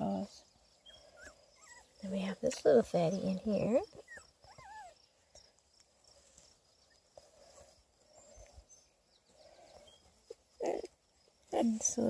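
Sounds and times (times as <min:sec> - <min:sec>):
faint soft rustling: 0:00.0 - 0:12.0.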